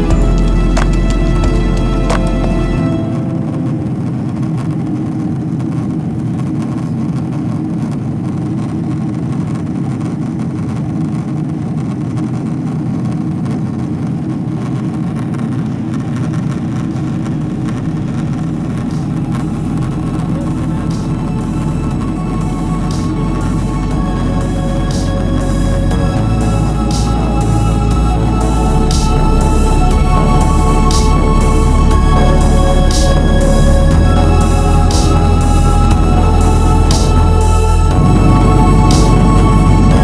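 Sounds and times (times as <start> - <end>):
jet airliner cabin drone: 0.0 - 40.0.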